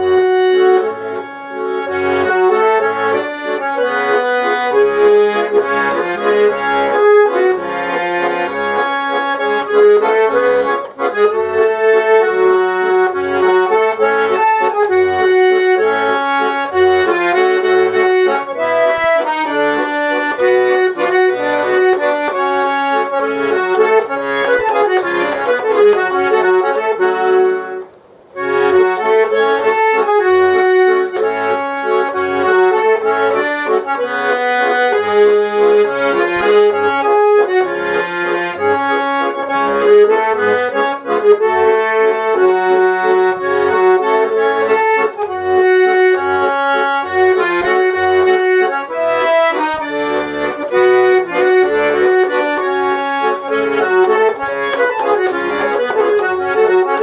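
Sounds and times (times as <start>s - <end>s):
accordion playing a waltz: 0.0s - 57.0s.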